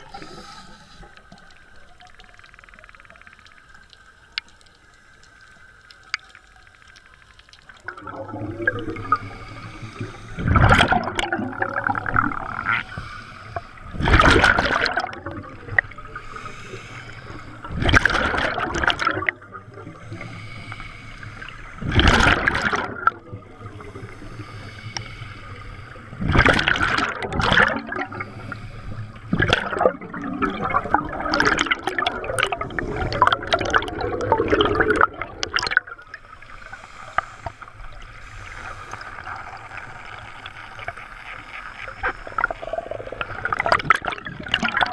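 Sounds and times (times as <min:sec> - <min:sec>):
underwater breath bubbles: 0:00.0 - 0:01.7, 0:07.8 - 0:44.9.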